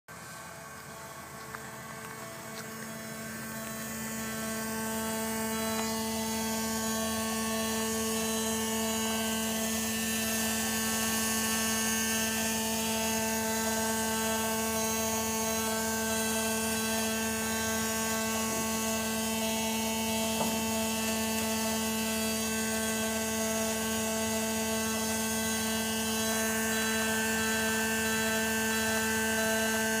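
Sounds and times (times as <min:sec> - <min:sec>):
steady electrical buzz: 0:00.1 - 0:30.0.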